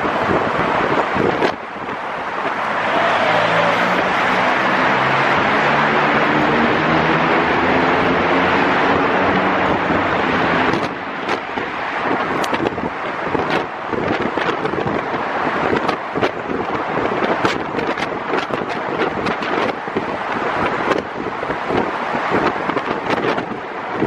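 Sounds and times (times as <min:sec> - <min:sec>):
engine hum: 0:00.0 - 0:24.0
road noise: 0:00.0 - 0:24.0.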